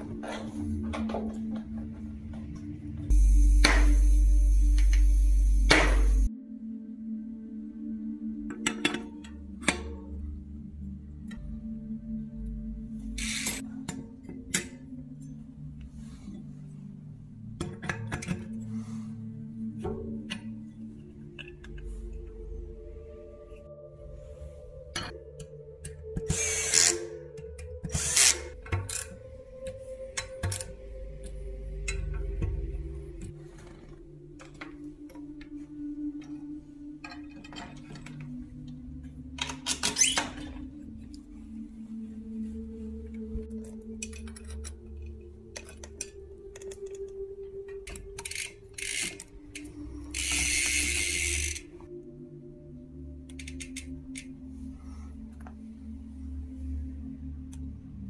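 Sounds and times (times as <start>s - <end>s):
background music: 0.0s - 58.0s.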